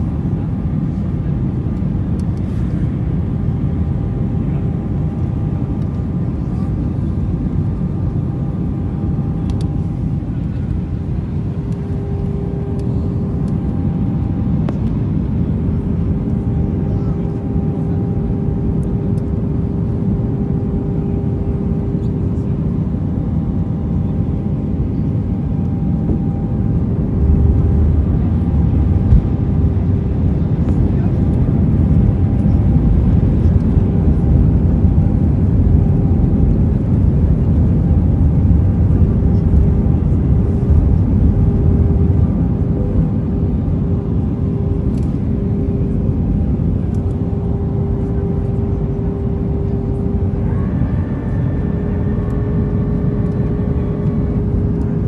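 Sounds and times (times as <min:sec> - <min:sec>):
airliner engine and airflow roar: 0:00.0 - 0:55.0
steady hum tone: 0:00.0 - 0:55.0.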